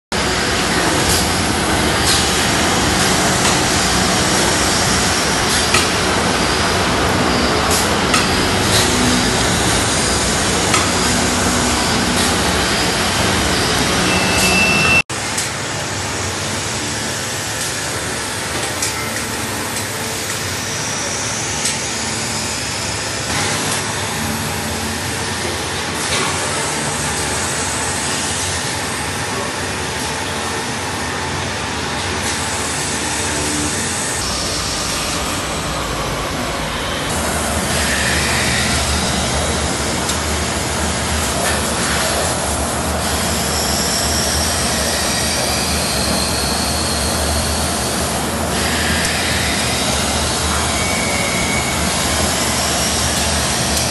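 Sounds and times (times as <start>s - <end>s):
workshop machinery running: 0.1s - 53.9s.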